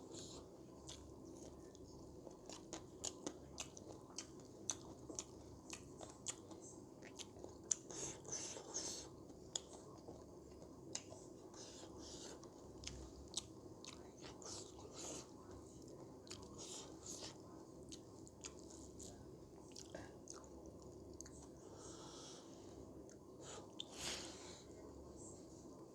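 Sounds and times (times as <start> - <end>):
person chewing food: 0.0 - 24.6.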